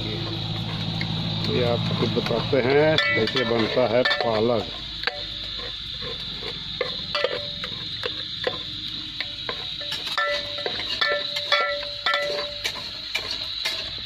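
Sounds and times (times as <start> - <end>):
onions sizzling in oil: 0.0 - 14.0
metal spoon scraping a pan: 0.1 - 14.0.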